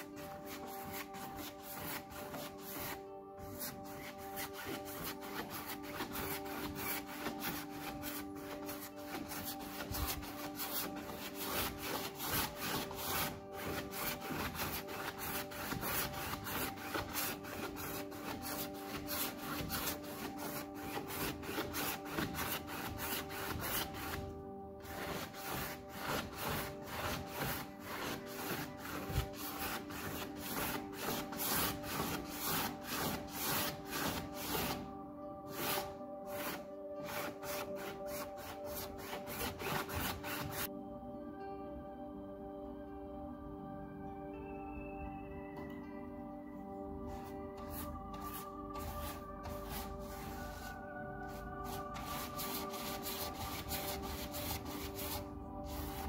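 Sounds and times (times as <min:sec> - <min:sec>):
rubbing strokes on a surface: 0:00.0 - 0:40.7, 0:47.1 - 0:56.0
soft background music: 0:00.0 - 0:56.0.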